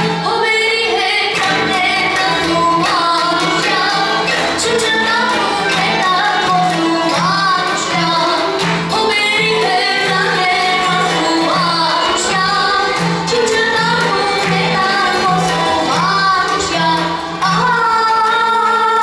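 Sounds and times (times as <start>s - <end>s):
backing track: 0.0s - 19.0s
girl singing into microphone: 0.0s - 19.0s.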